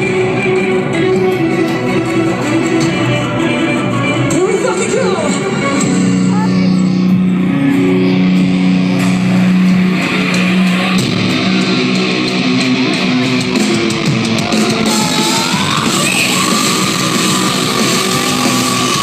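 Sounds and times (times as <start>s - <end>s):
distorted guitar chords: 0.0s - 19.0s.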